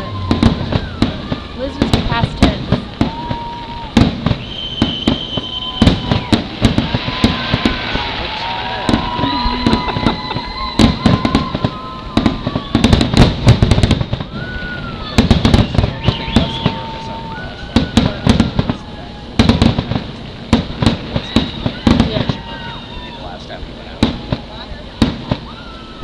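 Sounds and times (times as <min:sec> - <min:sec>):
fireworks bangs and crackling: 0:00.0 - 0:26.0
fireworks whistling: 0:00.0 - 0:26.0.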